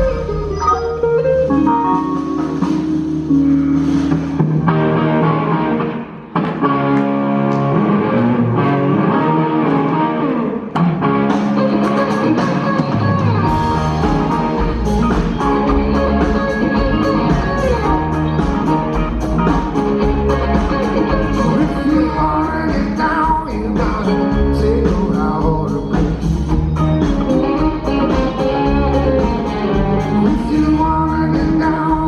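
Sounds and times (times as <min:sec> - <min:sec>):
bass and drums: 0:00.0 - 0:05.4, 0:10.8 - 0:32.0
picked guitar notes: 0:00.0 - 0:32.0.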